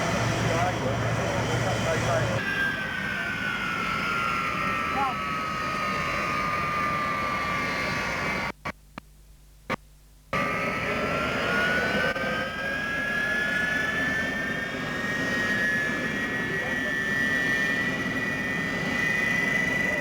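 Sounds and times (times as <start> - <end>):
jet engines whining: 0.0 - 8.6, 10.4 - 20.0.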